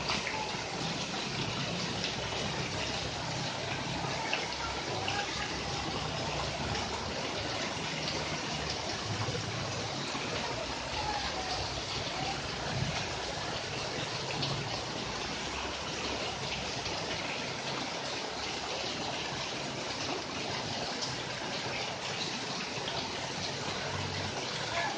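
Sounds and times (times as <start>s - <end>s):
water splashing on plants: 0.0s - 24.9s.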